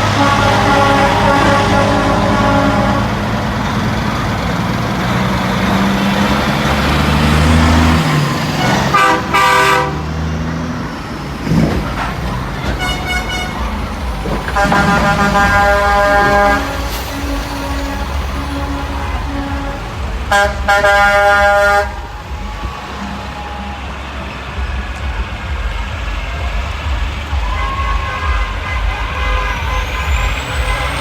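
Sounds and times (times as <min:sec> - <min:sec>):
truck engines running: 0:00.0 - 0:31.0
truck horns honking: 0:00.0 - 0:31.0.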